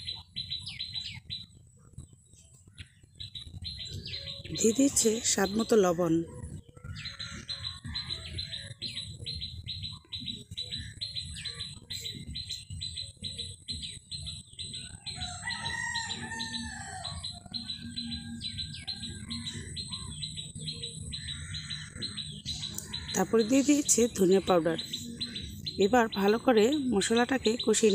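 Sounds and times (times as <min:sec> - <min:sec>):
bird chirping: 0:00.0 - 0:27.9.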